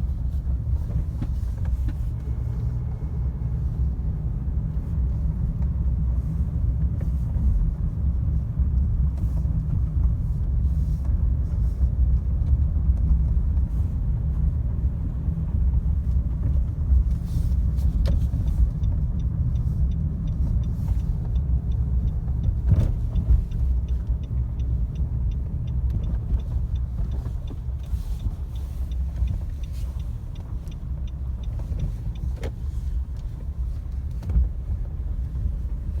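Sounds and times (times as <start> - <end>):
car tyres and engine rumble: 0.0 - 36.0.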